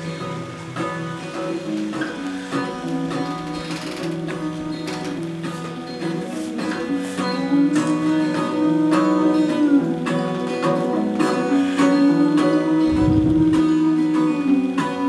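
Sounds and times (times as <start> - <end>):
plucked acoustic guitar notes: 0.0 - 15.0.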